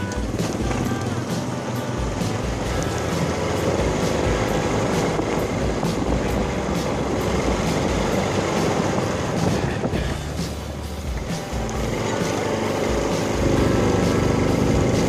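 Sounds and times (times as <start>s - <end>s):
motorbike engine running: 0.0s - 15.0s
wind buffeting microphone: 0.0s - 15.0s.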